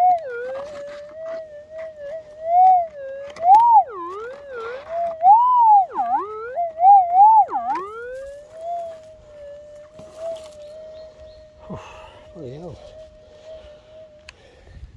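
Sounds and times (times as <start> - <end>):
metal detector tone warping: 0.0 - 14.8.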